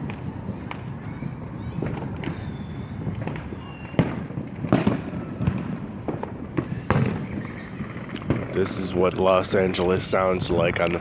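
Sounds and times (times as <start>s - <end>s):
distant fireworks pops and booms: 0.0s - 11.0s
loud firework bangs: 0.0s - 11.0s.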